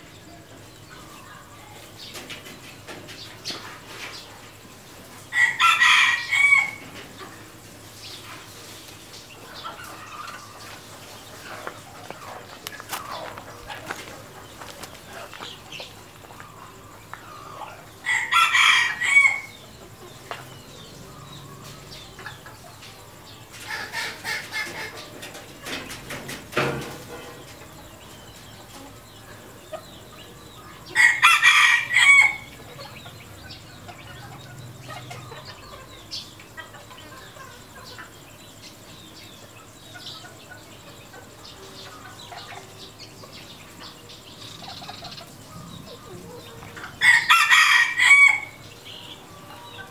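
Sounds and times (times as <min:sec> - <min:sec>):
roosters crowing: 0:02.9 - 0:08.6, 0:09.4 - 0:38.2, 0:39.0 - 0:49.9.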